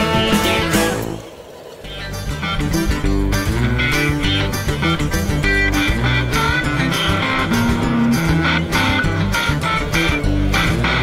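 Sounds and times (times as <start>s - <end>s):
guitar music with bass and beat: 0.0s - 1.3s, 1.9s - 11.0s.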